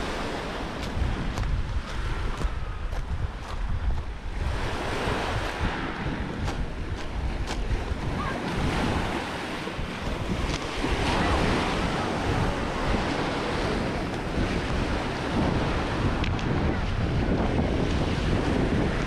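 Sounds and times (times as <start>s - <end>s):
waves washing onto pebble shore: 0.0s - 19.0s
wind buffeting microphone: 0.0s - 19.0s.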